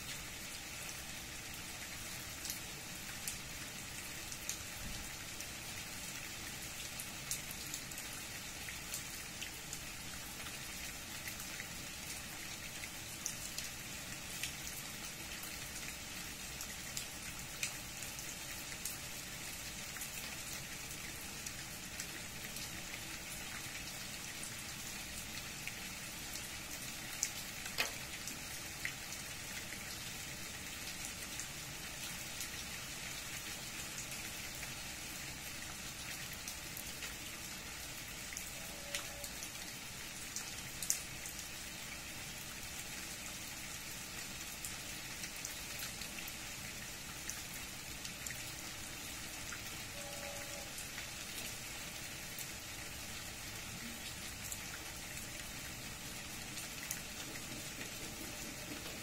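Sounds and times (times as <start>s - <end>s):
steady rain hiss: 0.0s - 59.0s
raindrops ticking close by: 1.6s - 59.0s.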